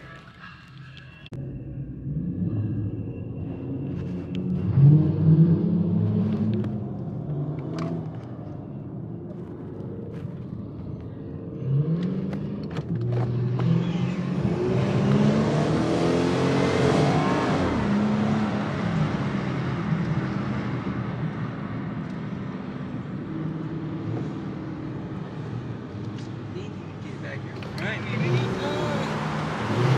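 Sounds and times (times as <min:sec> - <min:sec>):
car engine revving and accelerating: 0:02.0 - 0:10.8, 0:11.4 - 0:29.9.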